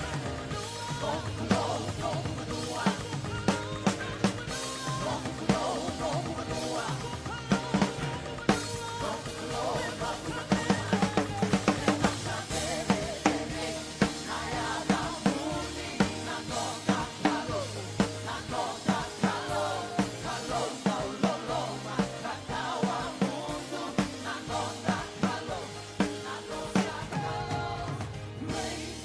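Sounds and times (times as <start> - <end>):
bass: 0.0 - 29.0
drum kit beat: 0.0 - 29.0
melody over band: 0.0 - 29.0.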